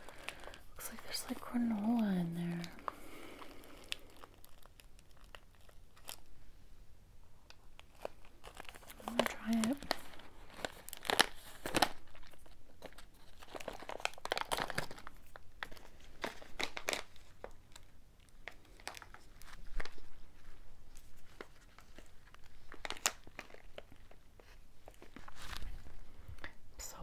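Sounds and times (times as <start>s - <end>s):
plastic wrapper crinkling and tearing: 0.0s - 6.4s, 7.4s - 26.6s.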